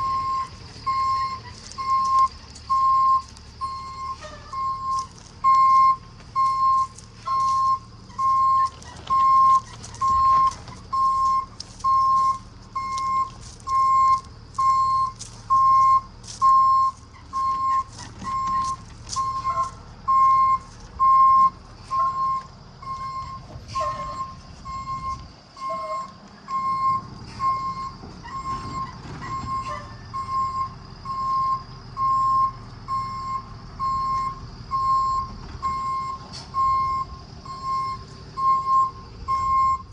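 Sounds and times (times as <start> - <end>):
truck engine hum: 0.0 - 39.9
truck reverse alarm beeping: 0.0 - 39.9.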